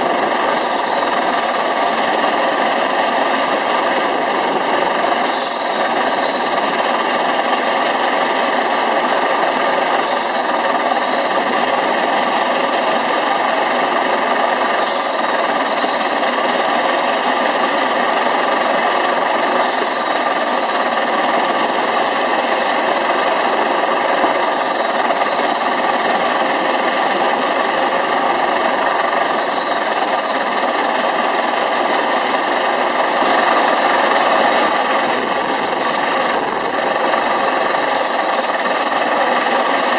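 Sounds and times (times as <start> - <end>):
steam engine running clatter: 0.0 - 39.9.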